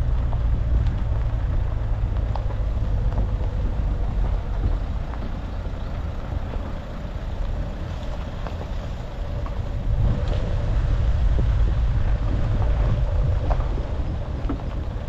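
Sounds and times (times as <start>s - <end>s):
car engine and road noise: 0.0s - 15.0s
wind on microphone: 0.0s - 15.0s.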